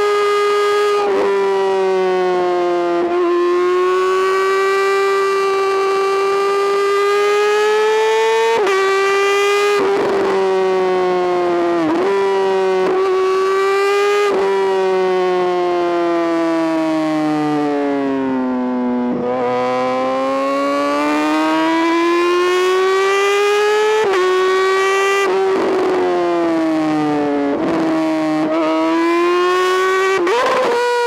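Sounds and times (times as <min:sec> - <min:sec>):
motorcycle engine revving high: 0:00.0 - 0:31.0.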